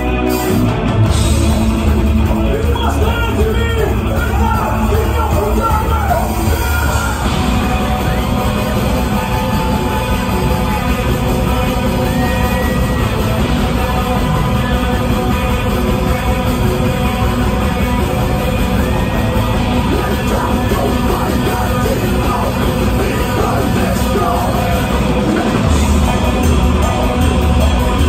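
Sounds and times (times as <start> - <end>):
metal band playing live: 0.0 - 28.0.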